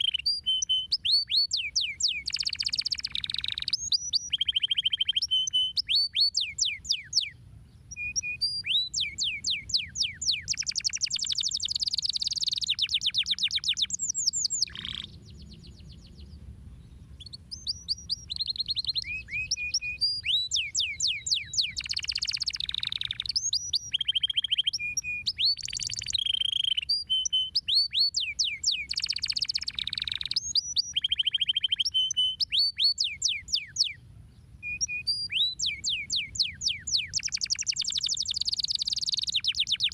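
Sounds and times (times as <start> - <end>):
canary singing: 0.0 - 16.2, 16.9 - 34.0, 34.6 - 39.9.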